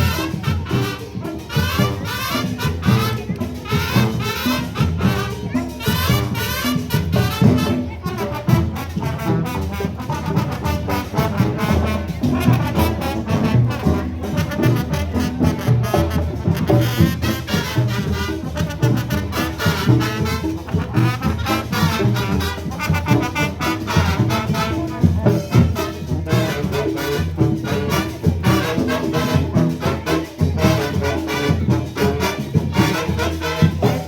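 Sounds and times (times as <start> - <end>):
brass playing a tune: 0.0 - 34.0
marching drum beat: 0.0 - 34.0.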